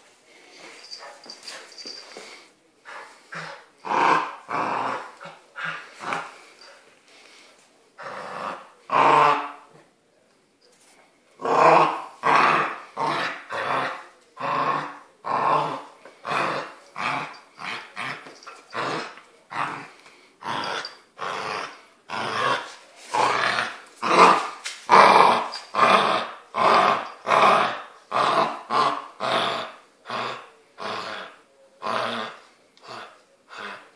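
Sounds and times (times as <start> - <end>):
puppy growling: 3.3 - 6.4, 8.0 - 9.7, 11.4 - 33.9.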